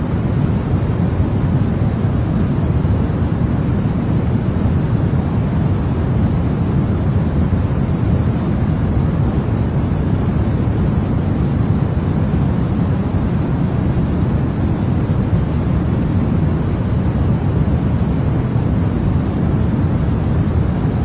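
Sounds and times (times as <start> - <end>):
deep steady white noise: 0.0 - 21.0.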